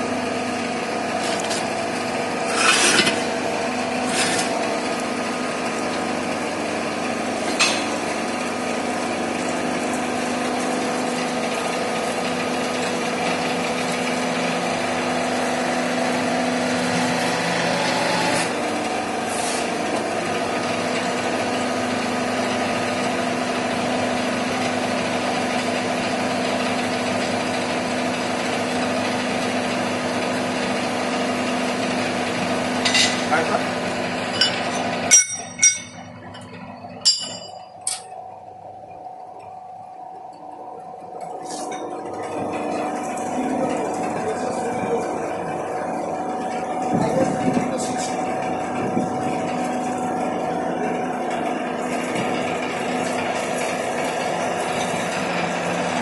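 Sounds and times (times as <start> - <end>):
hydraulic pump motor humming: 0.0 - 56.0.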